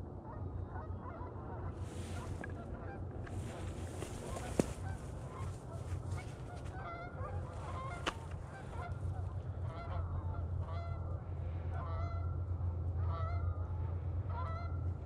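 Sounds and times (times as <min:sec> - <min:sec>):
steady low rumble: 0:00.0 - 0:15.0
geese honking: 0:00.2 - 0:15.0.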